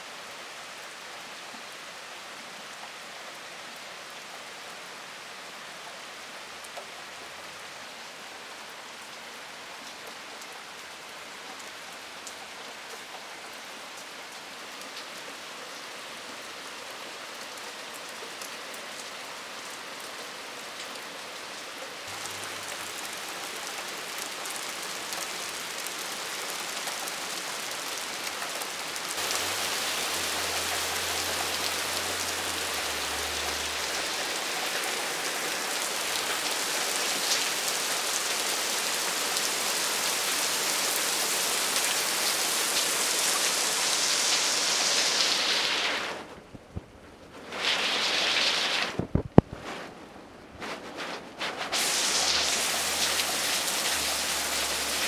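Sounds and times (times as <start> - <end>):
heavy rain on leaves and deck: 0.0 - 55.0.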